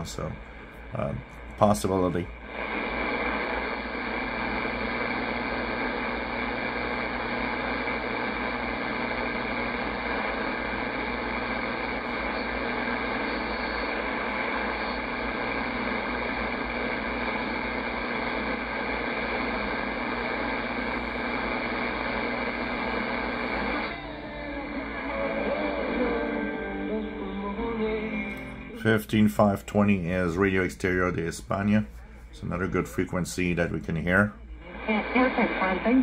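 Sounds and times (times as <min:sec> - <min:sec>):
shortwave radio static hiss: 0:00.0 - 0:36.0.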